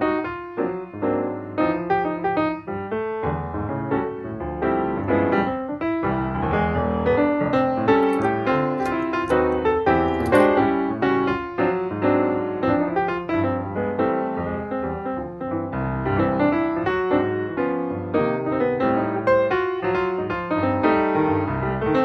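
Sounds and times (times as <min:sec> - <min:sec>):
quick piano run: 0:00.0 - 0:22.0.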